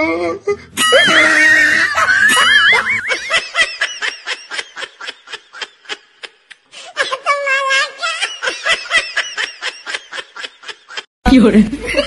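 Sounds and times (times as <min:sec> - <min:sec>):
high-pitched laughter: 0:00.8 - 0:11.1.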